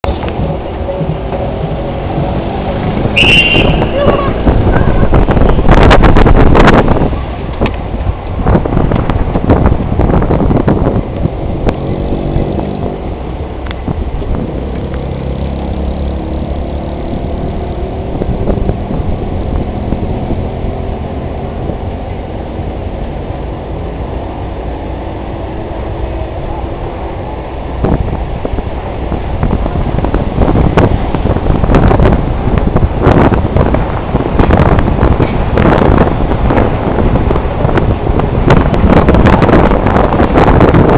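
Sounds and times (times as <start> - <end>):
road noise: 0.0 - 40.9
vehicle engine hum: 0.0 - 40.9
wind buffeting microphone: 0.0 - 40.9.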